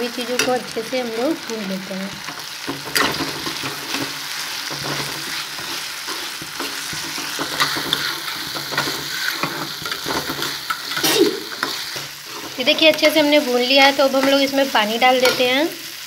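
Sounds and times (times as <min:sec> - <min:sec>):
vegetables sizzling in hot oil: 0:00.0 - 0:16.0
metal spatula scraping a pan: 0:02.2 - 0:15.5.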